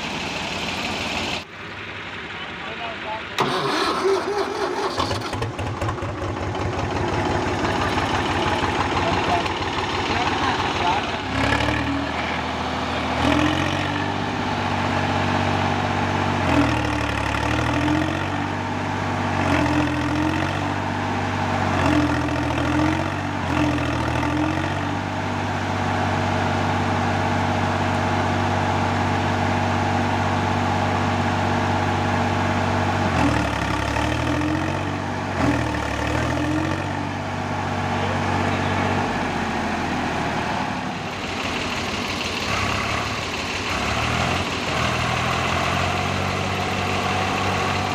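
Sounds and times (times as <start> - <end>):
tractor diesel engine revving: 0.0 - 47.9.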